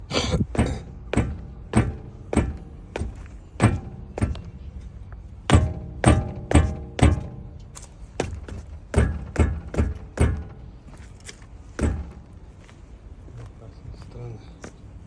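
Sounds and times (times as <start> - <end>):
sharp metallic suspension knocks: 0.4 - 12.5.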